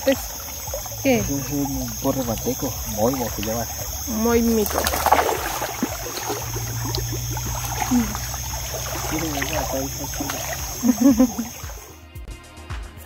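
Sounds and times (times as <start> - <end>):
steady hiss and low hum: 0.0 - 11.9
faint voices: 0.0 - 12.0
river water trickling and lapping: 0.0 - 12.0.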